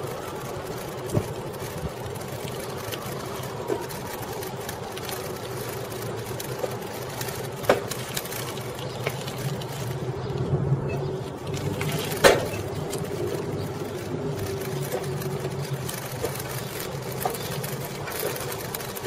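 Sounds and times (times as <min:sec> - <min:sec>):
bicycle mechanical hum: 0:00.0 - 0:19.0.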